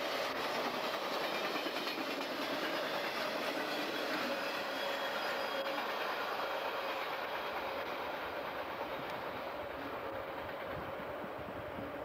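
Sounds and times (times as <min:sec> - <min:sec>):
train cars rumbling on rails: 0:00.0 - 0:12.0.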